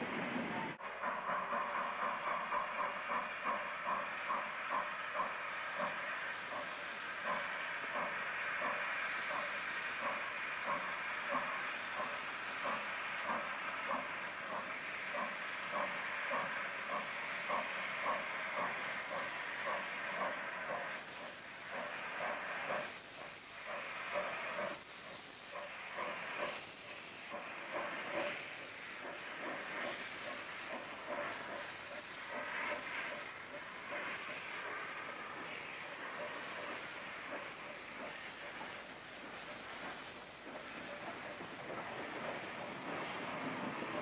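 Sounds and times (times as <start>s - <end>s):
steam hissing: 0.0s - 44.0s
steam locomotive exhaust beats: 0.0s - 44.0s.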